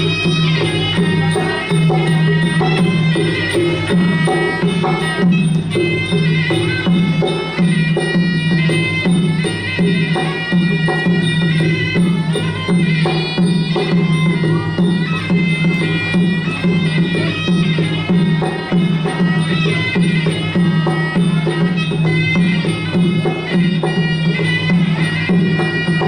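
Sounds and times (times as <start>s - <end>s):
hand drums beating: 0.0s - 26.0s.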